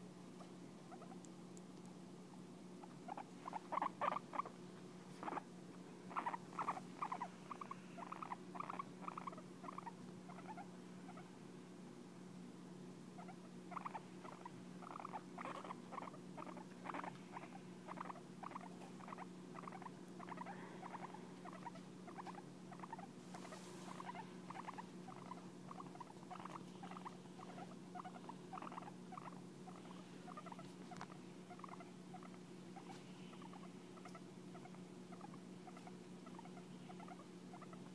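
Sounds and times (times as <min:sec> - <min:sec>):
guinea pig making soft sounds: 0:00.0 - 0:37.9
steady low hum: 0:00.0 - 0:37.9.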